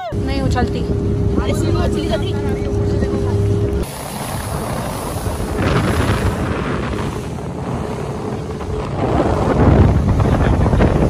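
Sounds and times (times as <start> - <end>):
faint outboard motor: 0.0 - 11.0
water rushing along a hull: 0.0 - 11.0
wind buffeting the microphone: 0.2 - 11.0.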